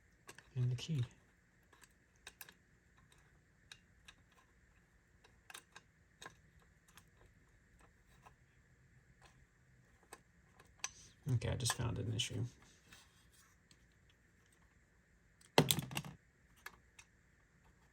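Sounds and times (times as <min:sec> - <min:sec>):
low steady hum: 0:00.0 - 0:17.9.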